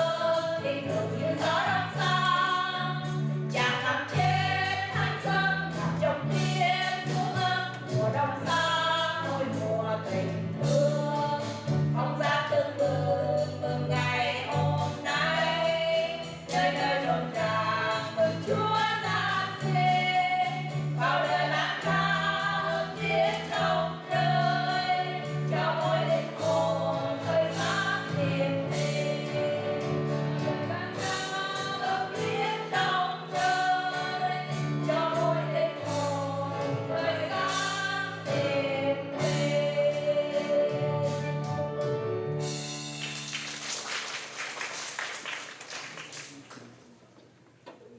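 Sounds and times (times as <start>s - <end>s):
women singing in harmony: 0.0s - 41.8s
instrumental accompaniment: 0.0s - 45.4s.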